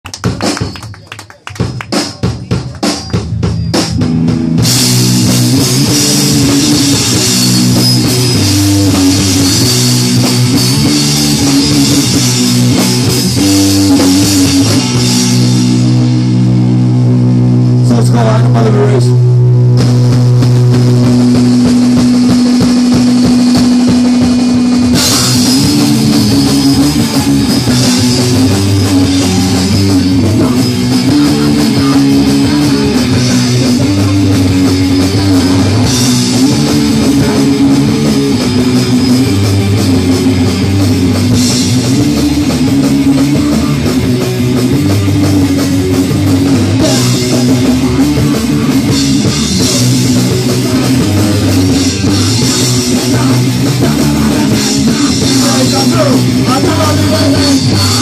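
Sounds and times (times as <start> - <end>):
punk band playing live: 0.0 - 58.0.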